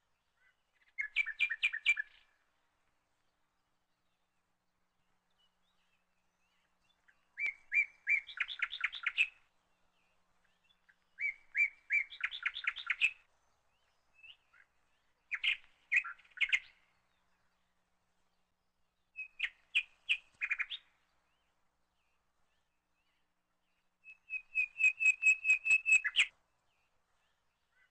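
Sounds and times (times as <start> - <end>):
songbird singing: 0.0 - 27.9.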